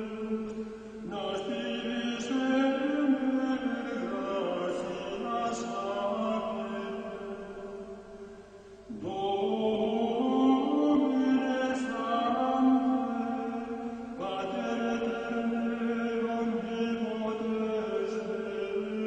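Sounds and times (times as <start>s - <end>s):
voices singing chant: 0.0s - 8.0s, 8.9s - 19.0s.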